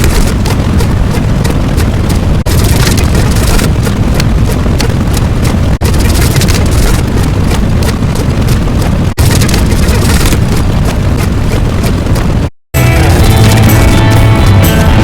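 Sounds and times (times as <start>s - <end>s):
dense low rumbling: 0.0s - 15.0s.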